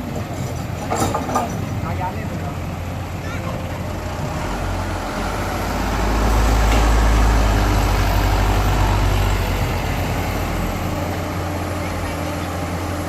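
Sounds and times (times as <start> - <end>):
diesel machinery engine humming: 0.0 - 13.0.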